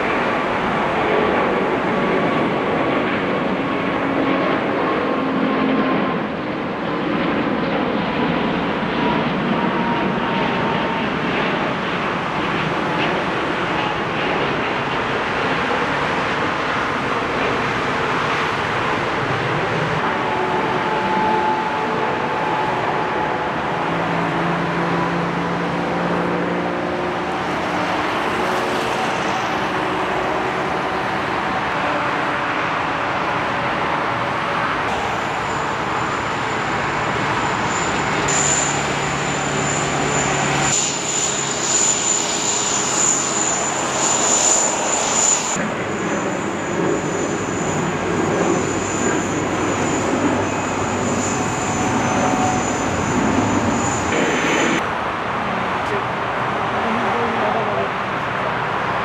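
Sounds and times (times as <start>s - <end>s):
high steady whine: 0.0s - 59.0s
jet engine rush: 0.0s - 59.0s.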